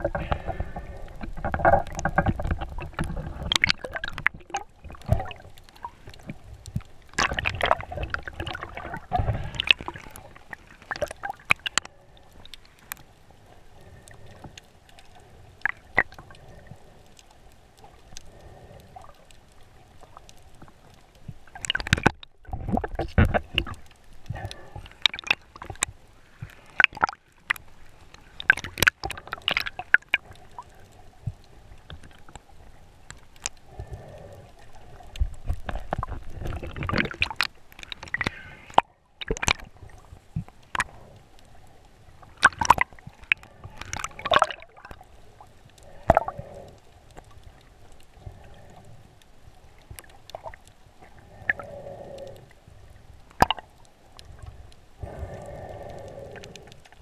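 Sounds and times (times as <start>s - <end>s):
muffled water sloshing and gurgling: 0.0s - 57.0s.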